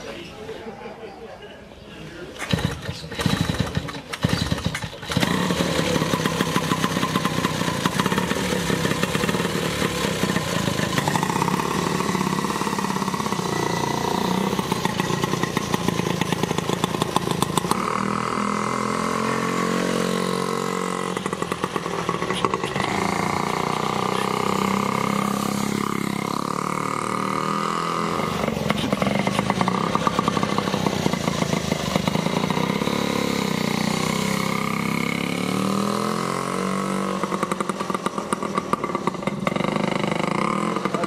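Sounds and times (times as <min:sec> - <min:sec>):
two-stroke motorcycle engine: 0:02.4 - 0:41.0.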